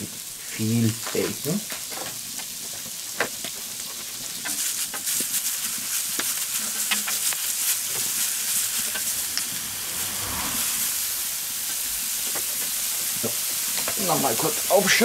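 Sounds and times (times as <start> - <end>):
bacon sizzling on hot steel: 0.0 - 15.0.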